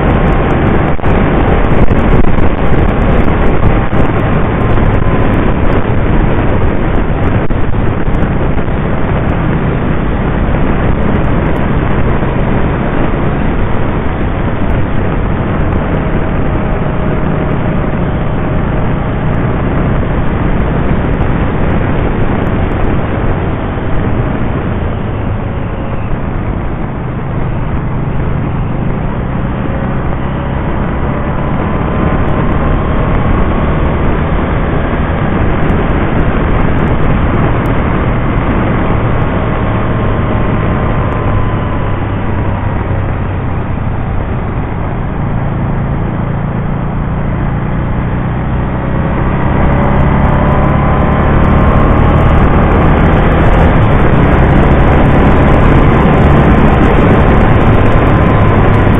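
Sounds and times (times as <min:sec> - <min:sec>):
motorcycle engine: 0:00.0 - 0:58.9
wind and road noise: 0:00.0 - 0:58.9.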